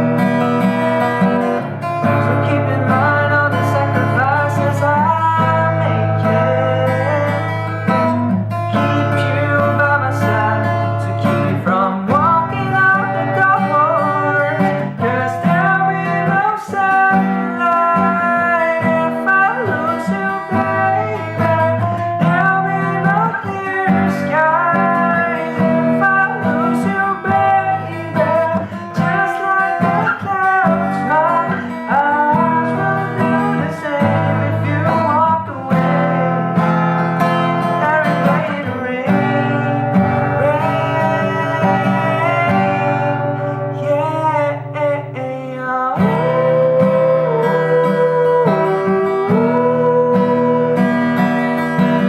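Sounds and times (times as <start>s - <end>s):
person singing: 0.0s - 52.0s
strummed acoustic guitar: 0.0s - 52.0s.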